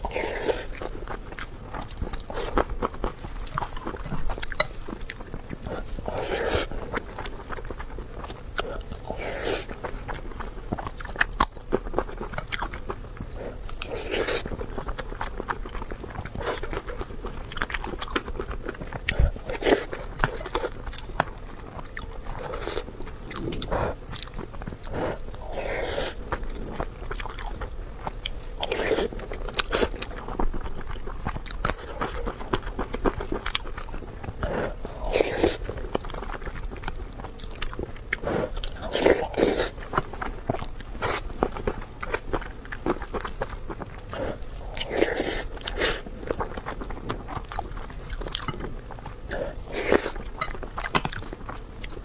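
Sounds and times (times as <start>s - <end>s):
chewing and wet mouth sounds: 0.0s - 52.0s.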